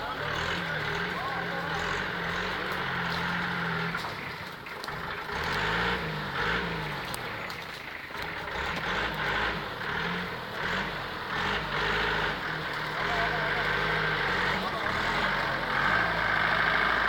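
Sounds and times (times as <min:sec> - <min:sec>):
jeep engine revving: 0:00.0 - 0:17.0.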